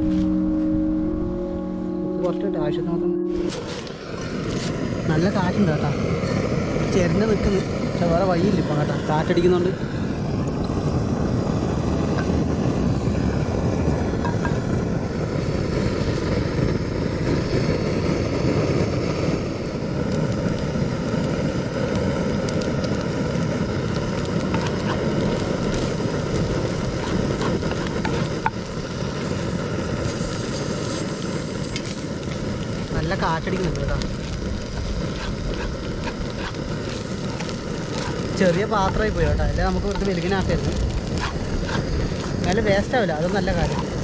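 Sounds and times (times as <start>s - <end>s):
wind buffeting the microphone: 4.0s - 44.0s.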